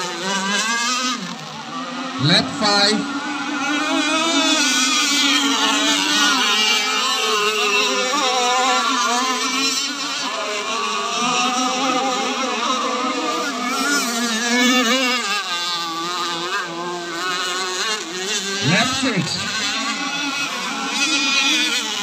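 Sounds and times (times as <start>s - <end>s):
model powerboat engines buzzing: 0.0s - 22.0s.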